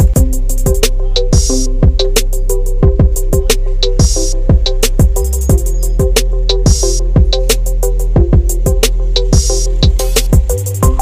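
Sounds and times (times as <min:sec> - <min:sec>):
kick drums: 0:00.0 - 0:02.1, 0:02.8 - 0:07.5, 0:08.2 - 0:08.8, 0:09.4 - 0:11.0
hi-hat strokes: 0:00.0 - 0:11.0
steady bass: 0:00.0 - 0:11.0.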